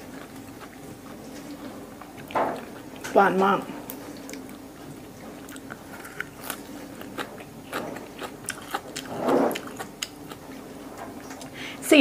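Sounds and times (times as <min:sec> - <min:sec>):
wet chewing with mouth smacks: 0:00.0 - 0:11.6
dishwasher hum: 0:00.0 - 0:12.0.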